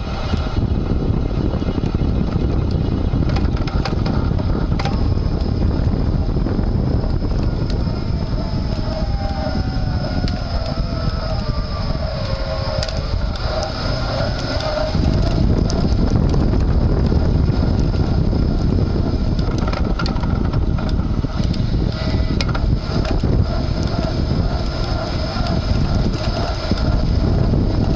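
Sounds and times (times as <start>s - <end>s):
hub motor whining: 0.0s - 27.9s
road and wind noise: 0.0s - 27.9s.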